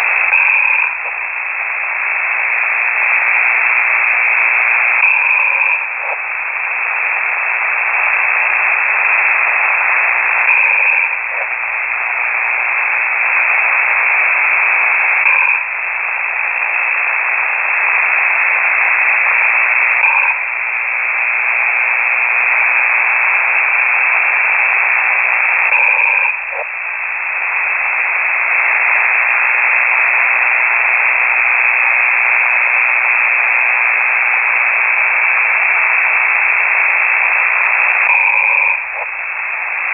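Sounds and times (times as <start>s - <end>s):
snoring over radio hiss: 0.0s - 26.8s, 27.4s - 39.9s.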